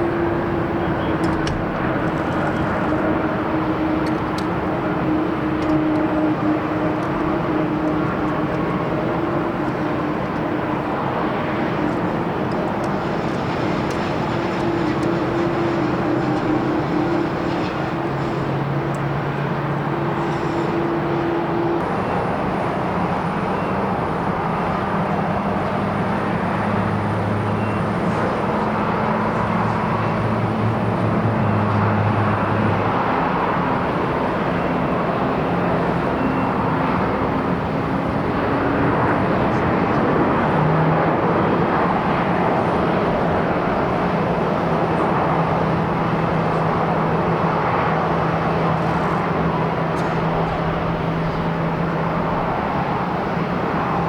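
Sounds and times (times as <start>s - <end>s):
jet airliner landing roar: 0.0s - 54.0s.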